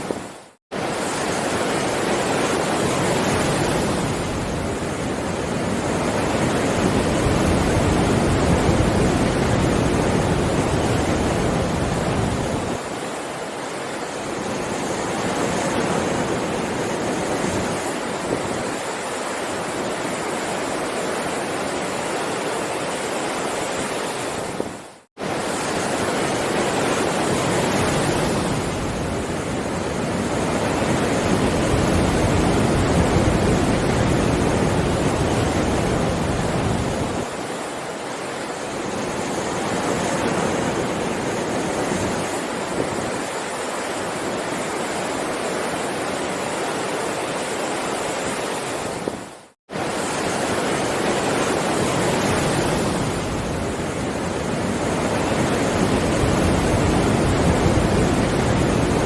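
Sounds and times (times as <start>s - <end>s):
ocean waves surging: 0.0s - 59.0s.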